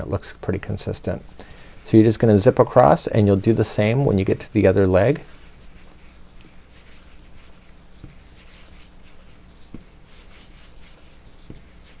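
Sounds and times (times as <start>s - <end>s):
yarn rubbing and scratching: 1.8s - 12.0s.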